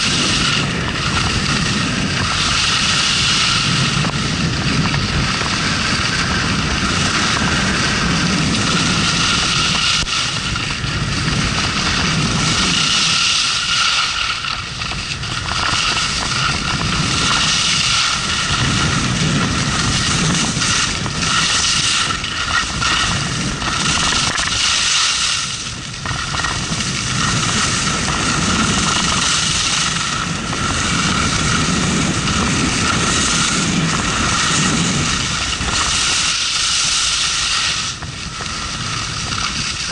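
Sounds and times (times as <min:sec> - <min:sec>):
skis scraping on packed snow: 0:00.0 - 0:39.9
wind on camera microphone: 0:00.0 - 0:39.9.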